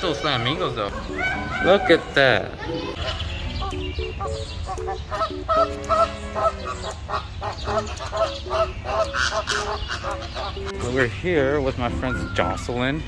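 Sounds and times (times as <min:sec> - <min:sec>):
flamingos honking: 0:00.2 - 0:13.0.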